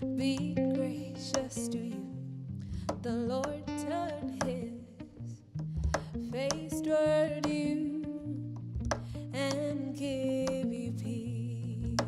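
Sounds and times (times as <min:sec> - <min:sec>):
woman singing: 0:00.0 - 0:12.0.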